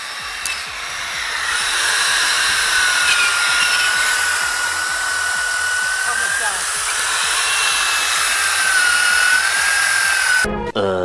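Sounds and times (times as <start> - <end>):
wire wheel grinding rusty steel: 0.0 - 10.5.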